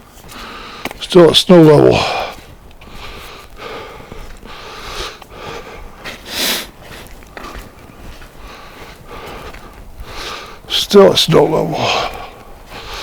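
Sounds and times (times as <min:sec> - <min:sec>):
person breathing: 0:00.2 - 0:01.0, 0:02.0 - 0:10.7, 0:11.8 - 0:13.0.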